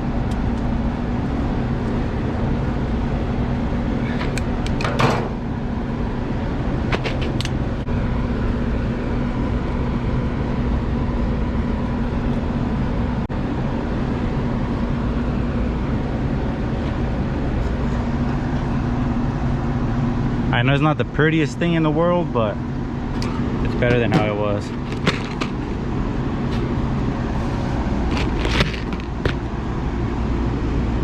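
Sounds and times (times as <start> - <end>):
hvac motor hum: 0.0 - 31.0.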